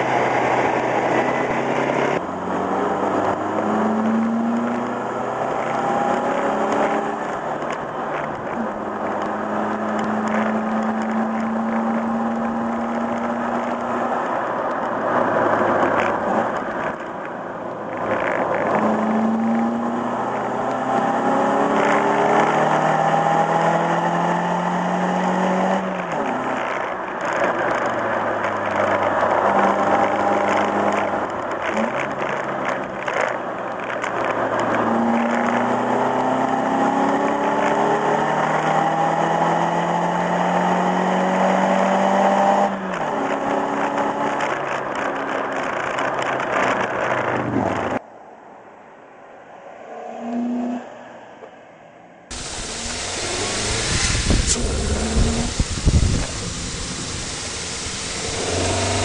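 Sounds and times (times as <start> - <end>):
vehicle engine shifting gears: 0.0 - 48.0, 52.3 - 59.0
road and wind noise: 0.0 - 59.0.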